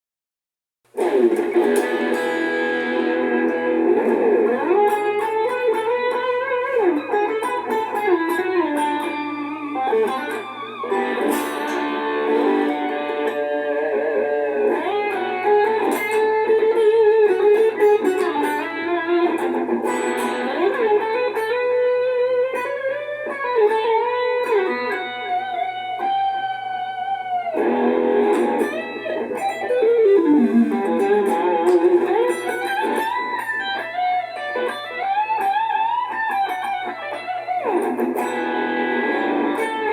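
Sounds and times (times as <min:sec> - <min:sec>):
electric guitar lead line: 0:00.9 - 0:39.9.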